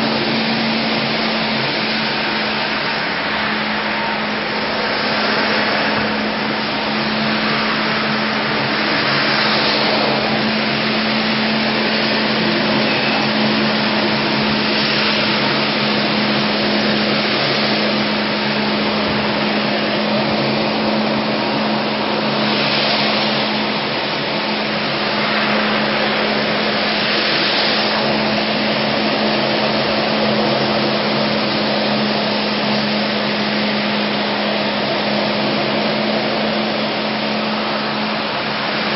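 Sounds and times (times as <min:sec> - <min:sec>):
floor cleaning machine drone: 0:00.0 - 0:38.9
steady hum: 0:00.0 - 0:38.9.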